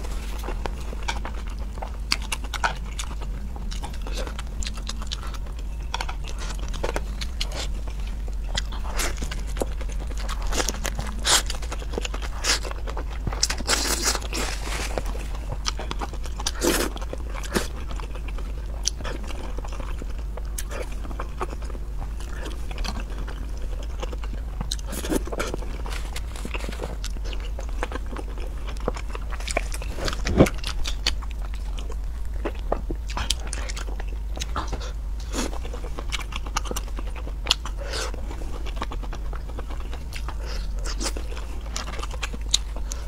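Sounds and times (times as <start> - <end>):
chewing and crunching shells: 0.0 - 43.0
low hum: 0.0 - 43.0.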